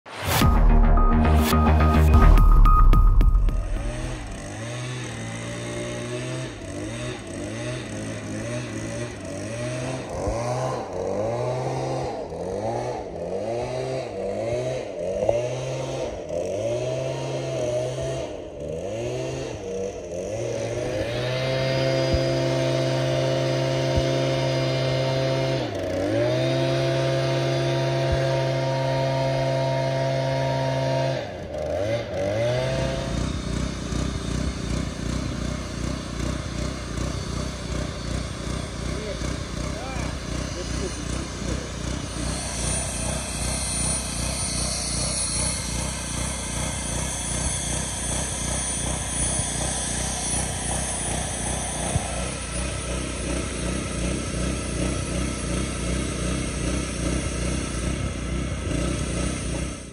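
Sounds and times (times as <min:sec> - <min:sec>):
small petrol engine revving: 0:03.3 - 0:59.9.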